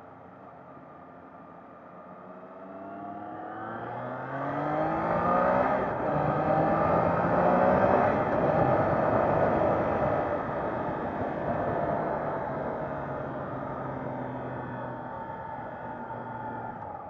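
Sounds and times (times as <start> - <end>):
motorcycle engine accelerating: 2.6 - 17.0.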